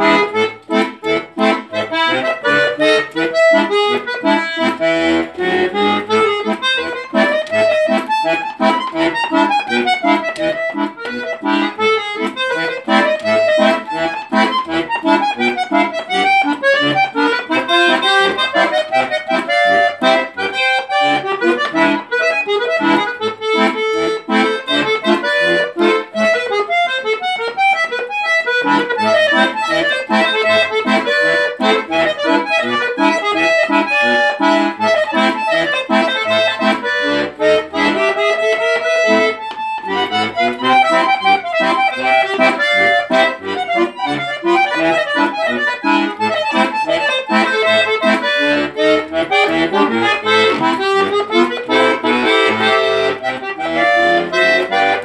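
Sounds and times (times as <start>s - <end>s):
accordion playing fast: 0.0s - 55.0s.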